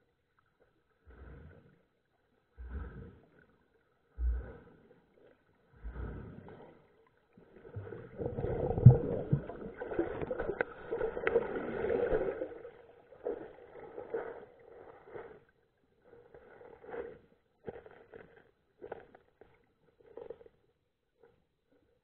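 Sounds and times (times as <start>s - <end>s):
underwater sloshing and bubbling: 0.0s - 22.0s.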